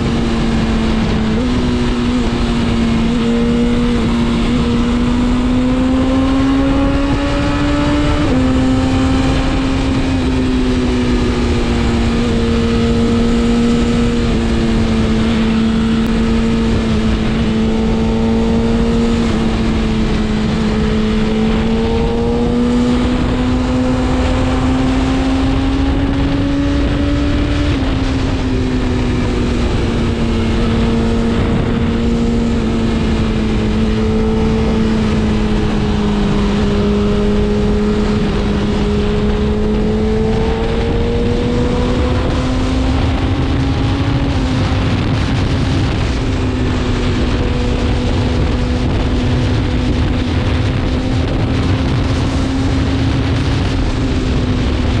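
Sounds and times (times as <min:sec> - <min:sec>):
motorcycle engine revving: 0:00.0 - 0:55.0
rush of noise: 0:00.0 - 0:55.0.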